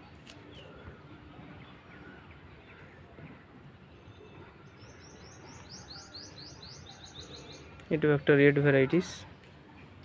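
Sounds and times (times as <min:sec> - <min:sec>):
outdoor background noise: 0:00.0 - 0:10.0
small birds chirping: 0:00.0 - 0:10.0.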